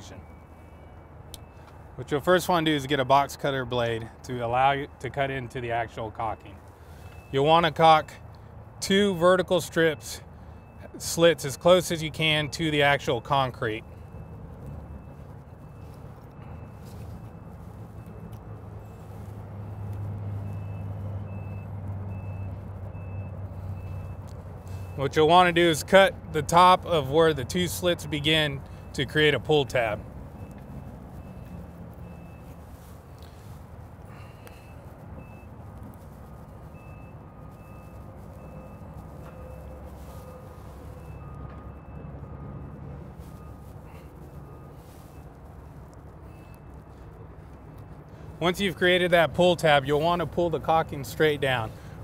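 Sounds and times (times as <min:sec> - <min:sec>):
engine humming: 0:00.0 - 0:52.0
vehicle reversing alarm beeping: 0:00.0 - 0:52.0.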